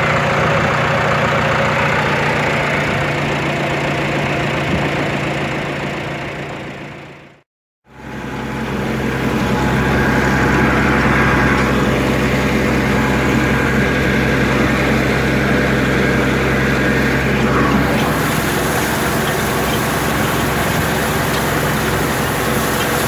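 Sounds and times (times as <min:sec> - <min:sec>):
engine humming: 0:00.0 - 0:07.0, 0:07.9 - 0:23.0.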